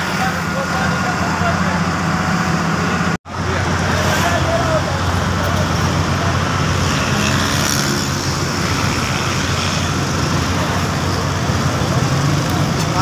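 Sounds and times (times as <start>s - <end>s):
diesel engine humming: 0.0s - 13.0s
road traffic passing: 0.0s - 13.0s.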